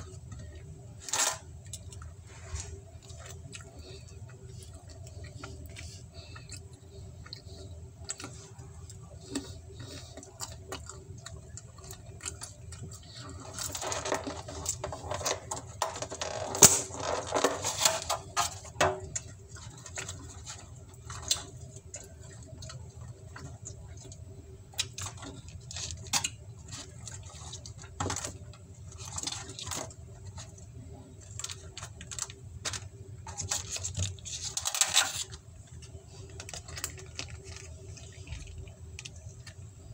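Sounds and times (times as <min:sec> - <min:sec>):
handling food: 0:00.0 - 0:39.9
chewing and mouth clicks: 0:01.4 - 0:15.8, 0:18.2 - 0:39.7.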